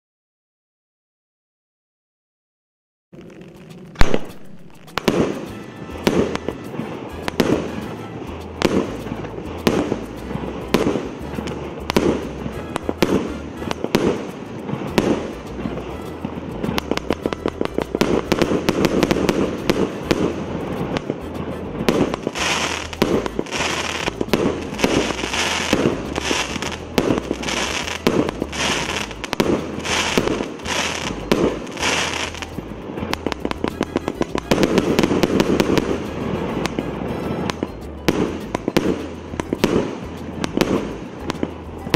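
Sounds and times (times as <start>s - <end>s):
firework cake shots: 3.2s - 41.9s
firework crackle: 3.2s - 41.9s.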